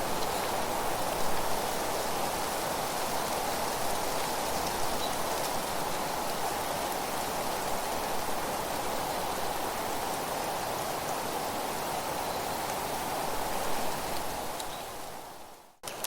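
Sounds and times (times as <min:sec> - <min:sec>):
wind through rustling leaves: 0:00.0 - 0:16.0.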